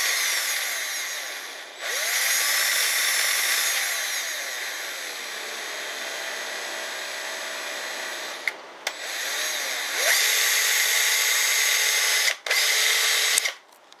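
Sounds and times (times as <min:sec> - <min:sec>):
cordless drill motor whining: 0:00.0 - 0:13.6.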